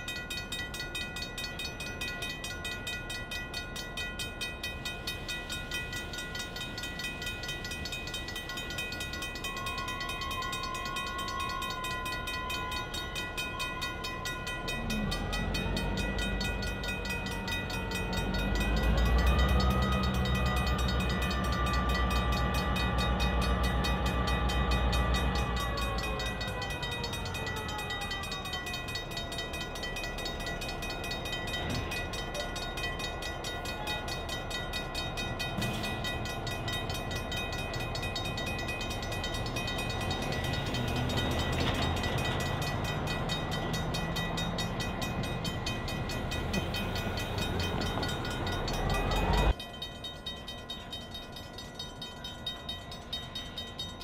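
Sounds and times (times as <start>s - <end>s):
crossing bell ringing: 0.0s - 54.0s
diesel locomotive engine: 0.0s - 54.0s.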